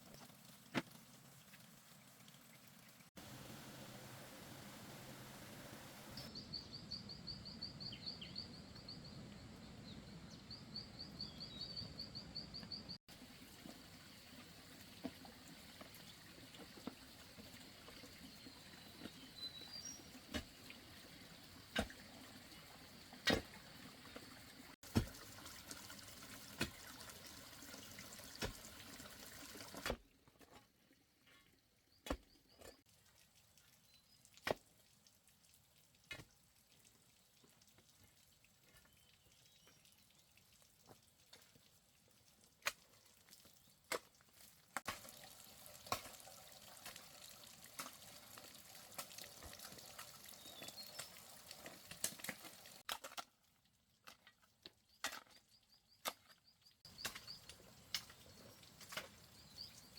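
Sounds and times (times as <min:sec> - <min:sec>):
stream water trickling: 0:00.0 - 0:06.2, 0:13.1 - 0:30.1, 0:32.8 - 0:59.9
water drips and splashes: 0:00.0 - 0:06.3, 0:13.1 - 0:31.4, 0:32.0 - 0:59.9.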